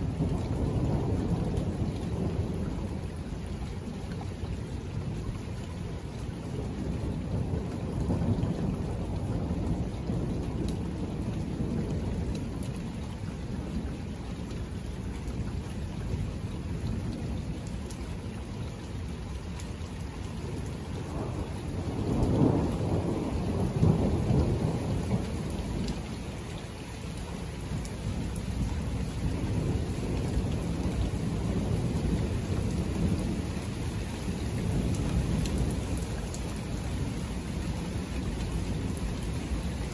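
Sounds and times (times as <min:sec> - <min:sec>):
thunder rumbling: 0:00.0 - 0:03.9, 0:04.9 - 0:14.8, 0:20.3 - 0:39.9
steady rain: 0:00.0 - 0:39.9.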